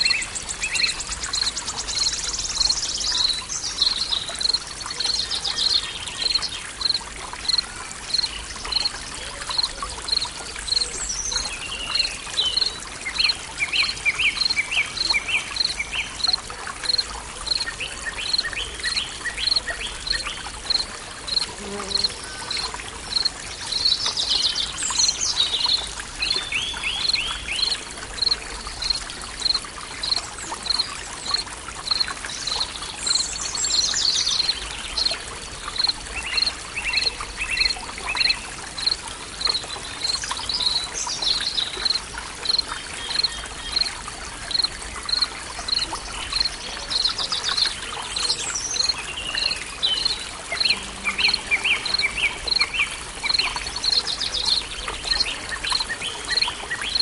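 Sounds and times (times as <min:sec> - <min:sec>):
faint trickling water: 0:00.0 - 0:57.0.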